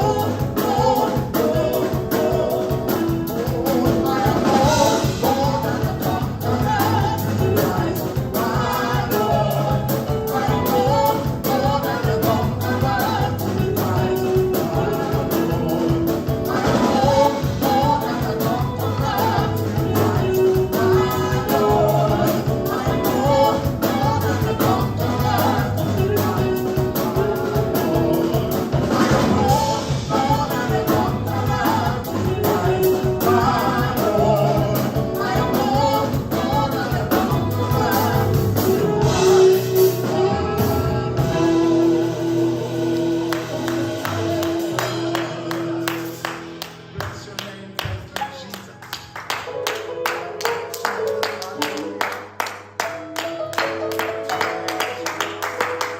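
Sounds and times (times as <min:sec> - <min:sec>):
group singing together: 0:00.0 - 0:47.3
steady drum beat: 0:00.0 - 0:48.7
bass: 0:00.0 - 0:50.2.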